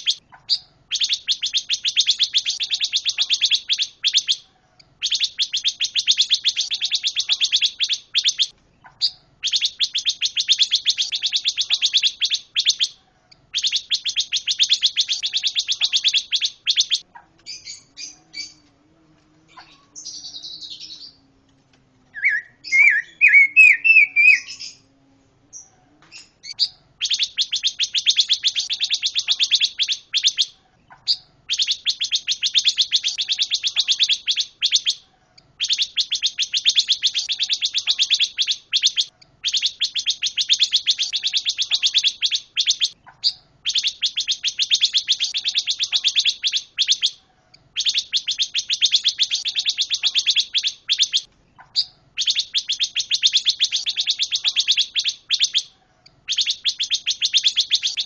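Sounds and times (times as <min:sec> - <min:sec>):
songbird trilling: 0:00.0 - 0:18.6, 0:19.5 - 0:21.2, 0:22.1 - 0:24.9, 0:25.5 - 0:35.0, 0:35.6 - 0:58.0
bird chirps and warbling: 0:00.0 - 0:18.7, 0:19.5 - 0:21.2, 0:22.1 - 0:24.9, 0:25.5 - 0:58.0.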